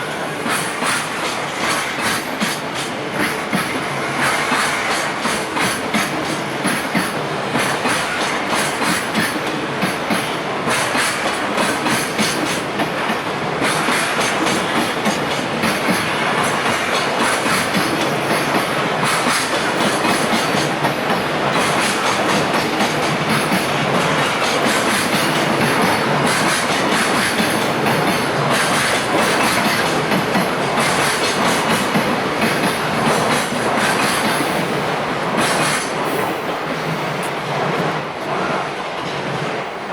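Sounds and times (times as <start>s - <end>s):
train rumble: 0.0s - 39.9s
train wheels clicking over rail joints: 0.1s - 39.8s.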